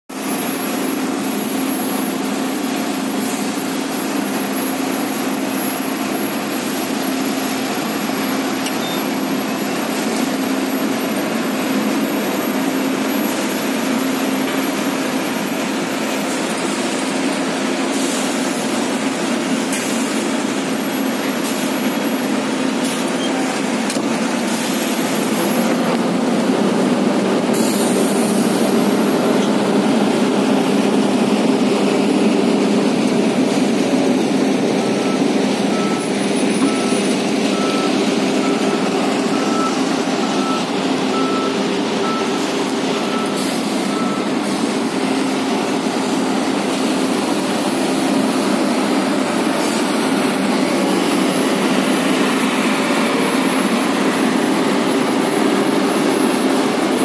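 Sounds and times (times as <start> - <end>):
excavator diesel engine running: 0.1 - 57.0.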